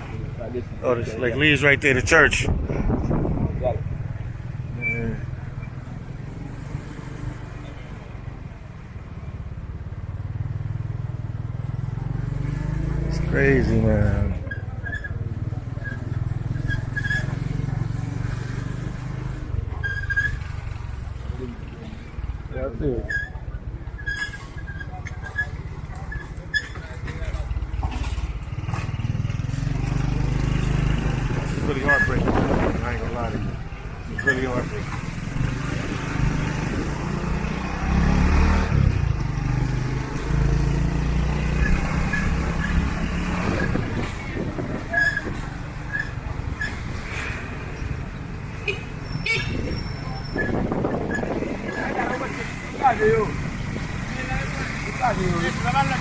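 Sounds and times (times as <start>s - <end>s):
motorbikes in traffic: 0.0s - 56.0s
vehicle engine rumbling: 0.0s - 56.0s.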